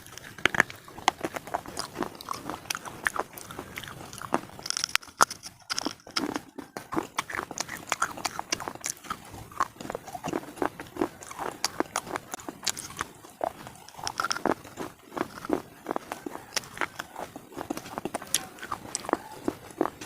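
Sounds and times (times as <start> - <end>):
crunching chewing of brittle pieces: 0.0 - 20.0.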